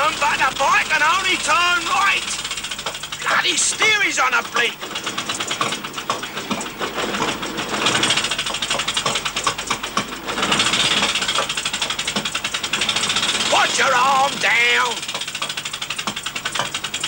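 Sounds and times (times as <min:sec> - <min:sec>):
motorcycle engine puttering: 0:00.0 - 0:17.0.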